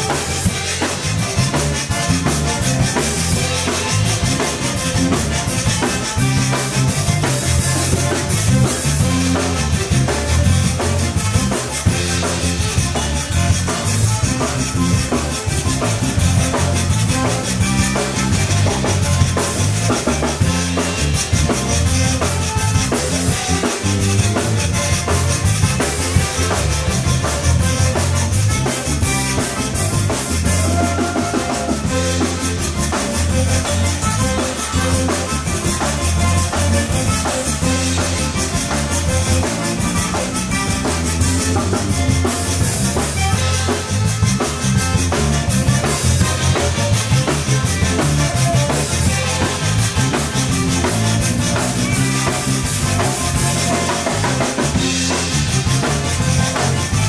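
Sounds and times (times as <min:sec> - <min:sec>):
button accordion: 0:00.0 - 0:57.0
drum kit: 0:00.0 - 0:57.0
electric bass: 0:00.0 - 0:57.0.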